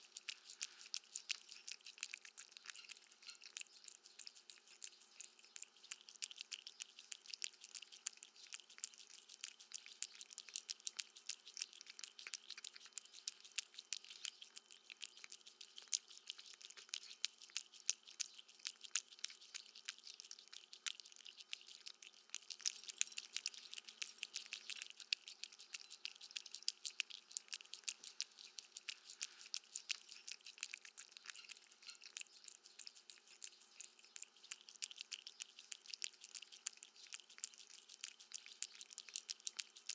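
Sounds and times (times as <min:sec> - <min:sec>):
cat chewing food: 0:00.0 - 0:39.9.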